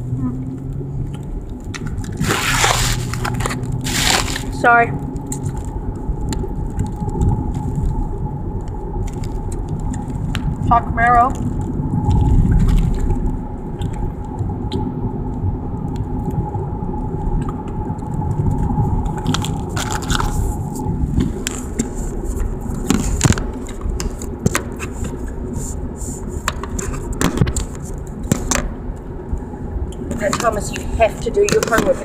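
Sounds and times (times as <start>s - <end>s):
road and engine rumble: 0.0s - 32.0s.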